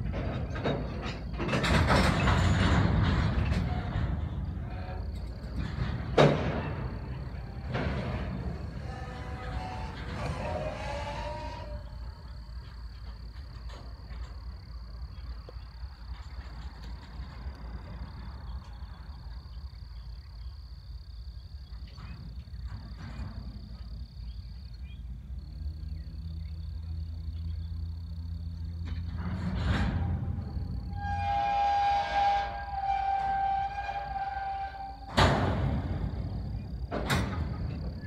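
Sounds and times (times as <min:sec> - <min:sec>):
freight cars clanking: 0:00.0 - 0:20.8, 0:21.4 - 0:38.0
diesel locomotive engine hum: 0:00.0 - 0:38.0
freight cars rumbling on track: 0:00.0 - 0:38.0.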